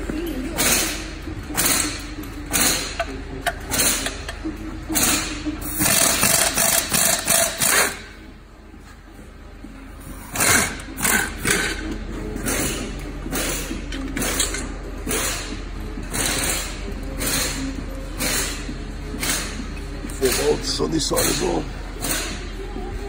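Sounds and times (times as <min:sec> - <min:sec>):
metallic clanks of tools: 0:00.2 - 0:08.1, 0:10.2 - 0:22.4.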